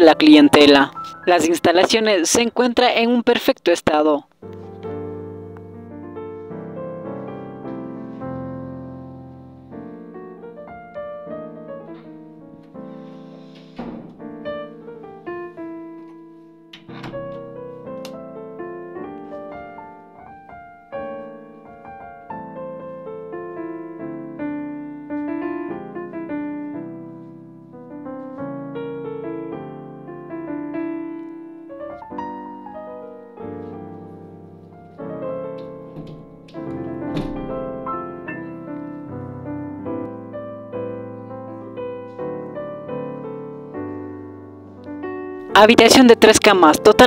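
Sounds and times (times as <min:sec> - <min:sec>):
piano music: 0:00.0 - 0:02.9, 0:04.3 - 0:47.0.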